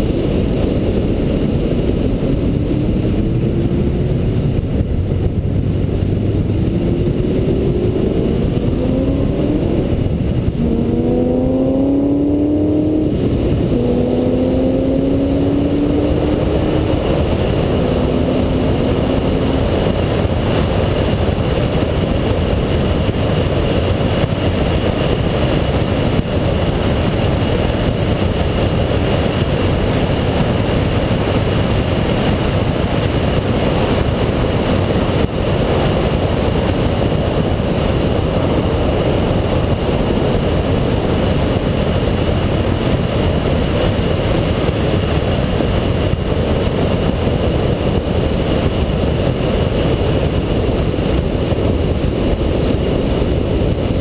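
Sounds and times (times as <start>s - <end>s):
car engine accelerating: 0.0s - 54.0s
wind and road noise: 0.0s - 54.0s.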